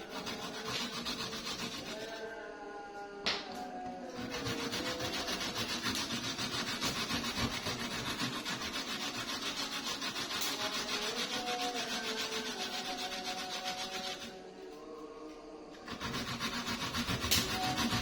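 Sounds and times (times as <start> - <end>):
ginger root scraping on grater: 0.0 - 2.2, 4.2 - 14.4, 15.8 - 18.0.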